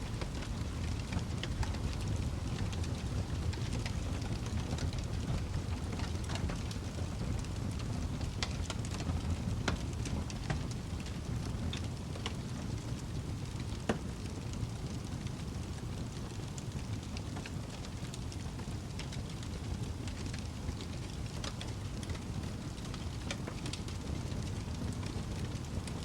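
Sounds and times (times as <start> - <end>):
flames rumbling: 0.0 - 26.0
wood fire crackling and popping: 0.0 - 26.0.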